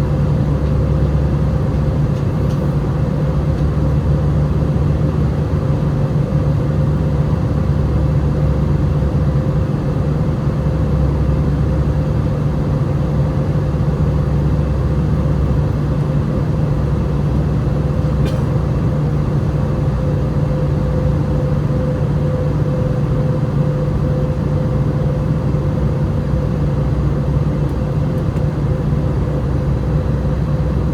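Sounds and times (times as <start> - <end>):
airplane cabin engine roar: 0.0 - 30.9.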